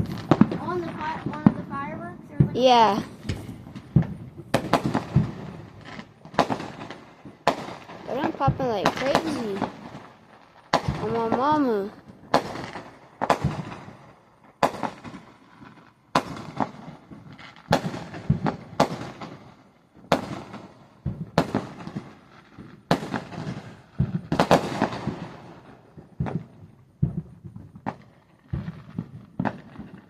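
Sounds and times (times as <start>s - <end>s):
fireworks banging: 0.0s - 30.0s.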